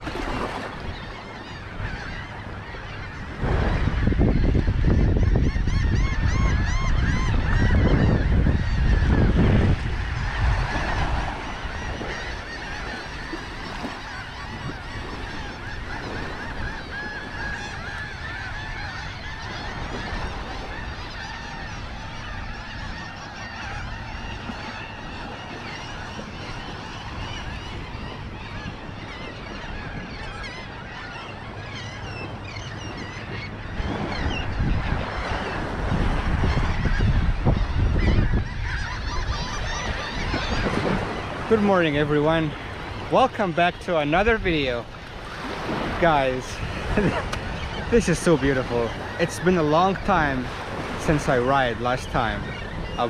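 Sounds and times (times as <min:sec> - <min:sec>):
geese honking: 0:00.5 - 0:53.0.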